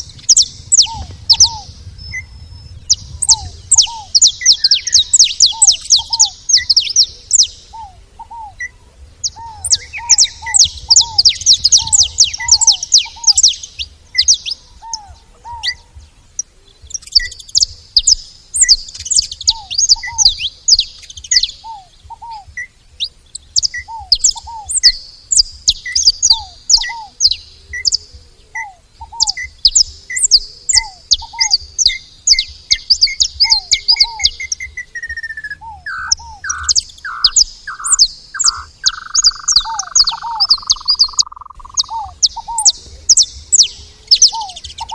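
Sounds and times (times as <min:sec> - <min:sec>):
finches chirping: 0:00.0 - 0:44.9
low whistled bird notes: 0:00.0 - 0:44.9.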